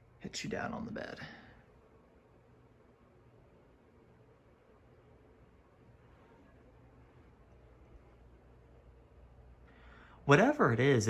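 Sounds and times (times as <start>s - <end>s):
ceiling fan humming: 0.0s - 11.0s.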